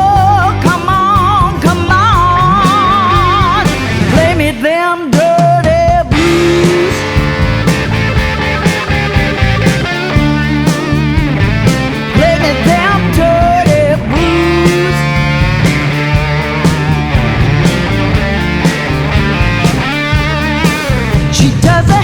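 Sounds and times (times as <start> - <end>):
blues-rock band playing: 0.0 - 22.0.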